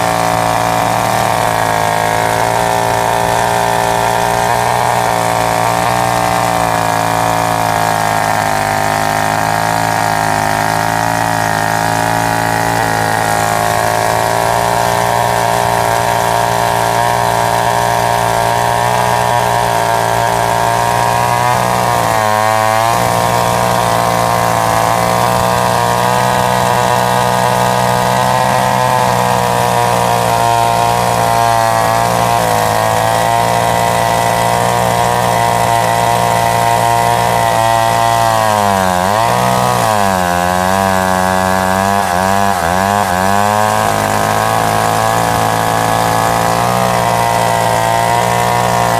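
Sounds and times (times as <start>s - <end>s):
chainsaw idling: 0.0s - 48.9s.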